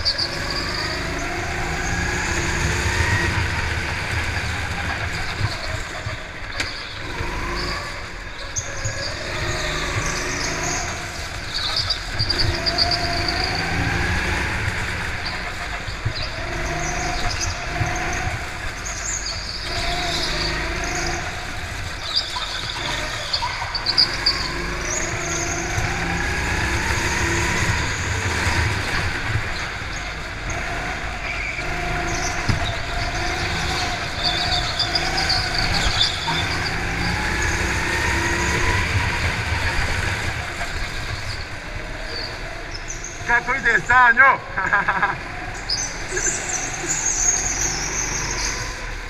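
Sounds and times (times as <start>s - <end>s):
go-kart engine: 0.0s - 49.0s.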